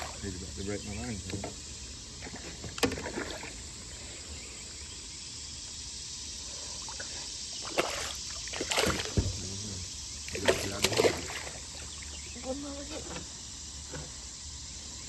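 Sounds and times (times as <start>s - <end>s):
creek hiss: 0.0s - 15.0s.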